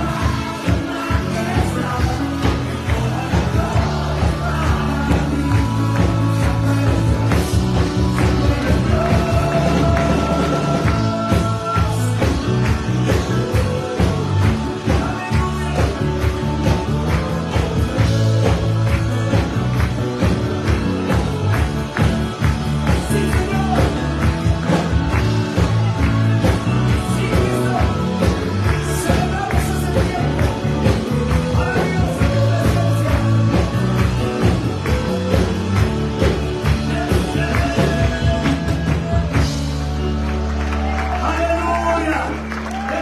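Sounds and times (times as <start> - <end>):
drums and bass beat: 0.0 - 42.2
live band with singing: 0.0 - 43.0.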